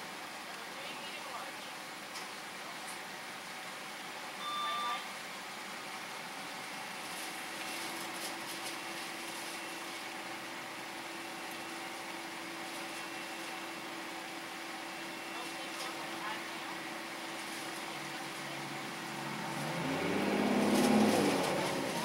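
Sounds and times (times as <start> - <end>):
car idling hum: 0.0 - 22.0.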